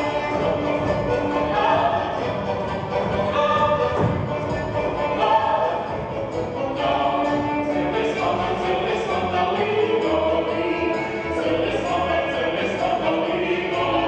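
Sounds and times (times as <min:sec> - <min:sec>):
choir singing folk dance music: 0:00.0 - 0:14.0.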